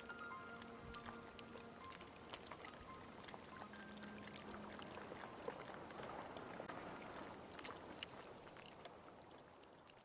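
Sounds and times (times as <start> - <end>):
rain falling on water: 0.0 - 10.0.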